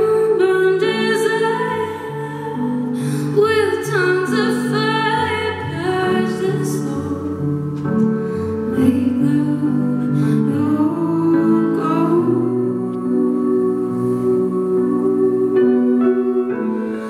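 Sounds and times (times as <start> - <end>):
piano chords: 0.0 - 17.0
woman singing a slow ballad: 0.0 - 17.0.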